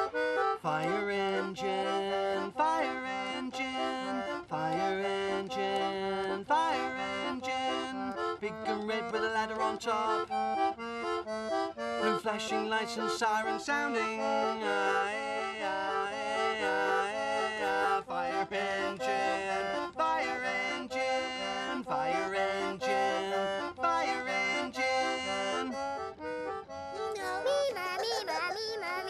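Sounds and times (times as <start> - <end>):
accordion music: 0.0 - 29.0.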